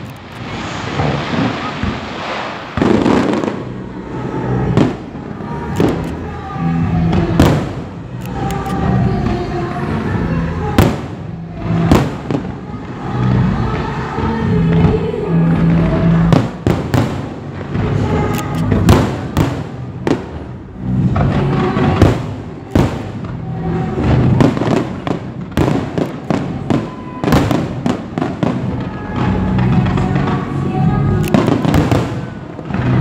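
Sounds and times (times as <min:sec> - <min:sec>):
fireworks bangs: 0:00.0 - 0:33.0
music playing: 0:02.8 - 0:33.0.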